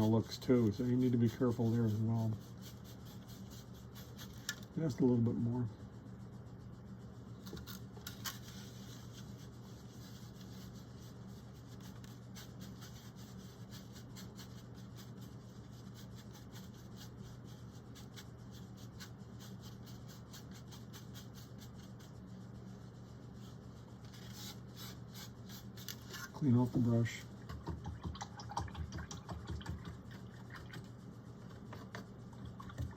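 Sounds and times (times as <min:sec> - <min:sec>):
paintbrush ticks and scratches: 0:00.0 - 0:28.4
steady low hum: 0:00.0 - 0:32.9.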